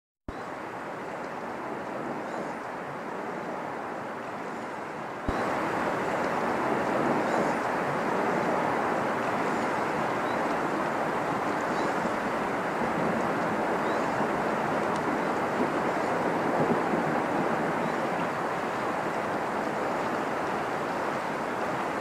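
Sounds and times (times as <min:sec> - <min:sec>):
waterfalls rushing: 0:00.3 - 0:22.0.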